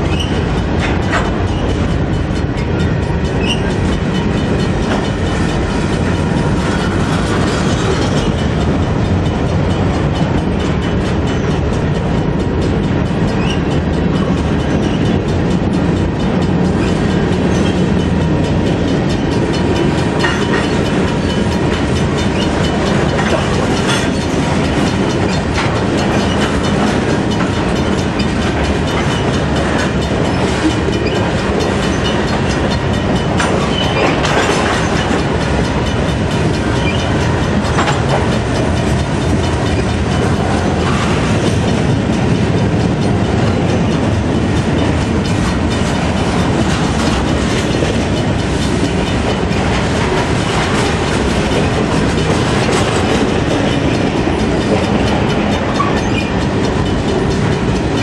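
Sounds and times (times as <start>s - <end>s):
steel wheels rumbling on rail: 0.0s - 58.0s
wheels clicking over rail joints: 0.0s - 58.0s.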